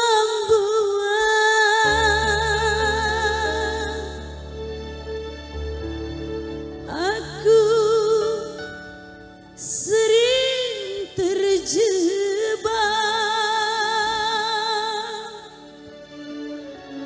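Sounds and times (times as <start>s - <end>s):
lead melody with vibrato: 1.1s - 17.0s.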